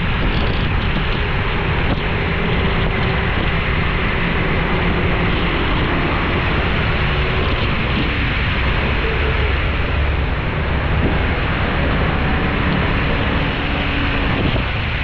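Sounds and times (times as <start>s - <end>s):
low engine hum: 0.0s - 15.0s
tyre noise on wet road: 0.0s - 15.0s.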